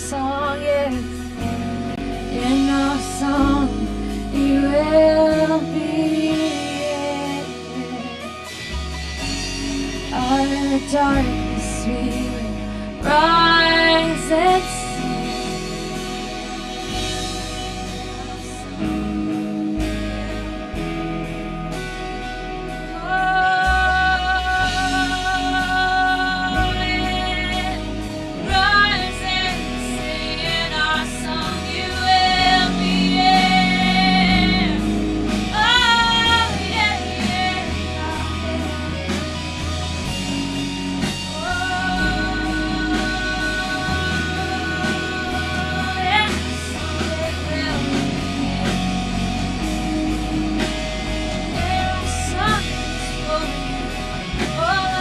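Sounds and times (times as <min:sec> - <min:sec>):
worship band playing slow song: 0:00.0 - 0:55.0.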